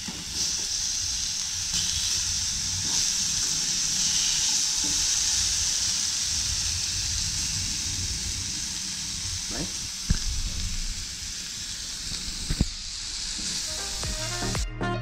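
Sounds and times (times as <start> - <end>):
fish sizzling in frying pan: 0.0 - 14.5.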